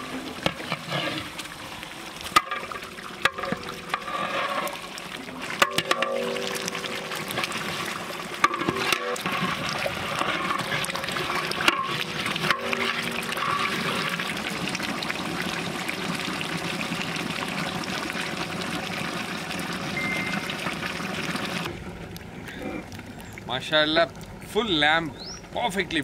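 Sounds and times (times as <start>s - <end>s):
thick gravy bubbling: 0.0s - 26.0s.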